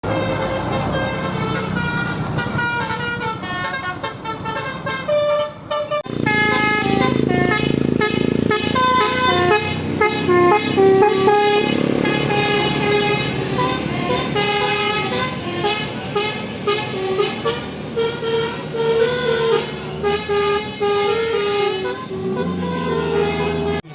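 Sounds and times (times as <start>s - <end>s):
musical air horn playing a tune: 0.0s - 23.9s.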